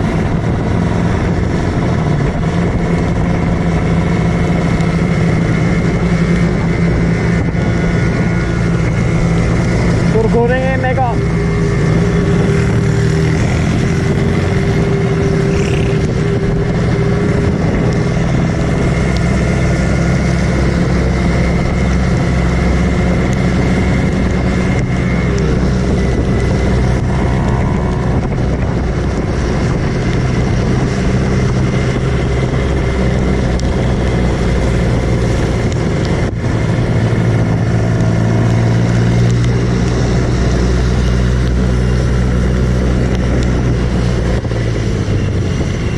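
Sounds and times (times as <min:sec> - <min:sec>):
two-stroke motorcycle engine: 0:00.0 - 0:45.9
wind and road noise: 0:00.0 - 0:45.9.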